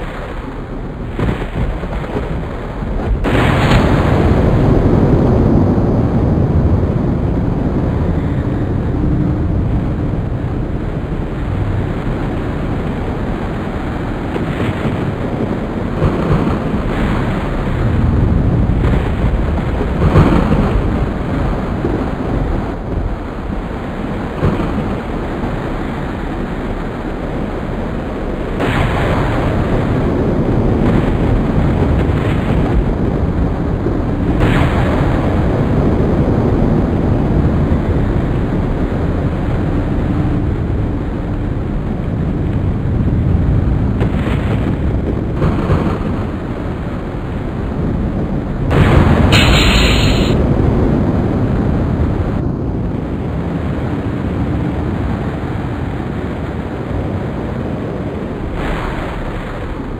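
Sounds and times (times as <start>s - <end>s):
storm wind roar: 0.0s - 59.9s
thunder cracks or gusts: 0.0s - 59.9s.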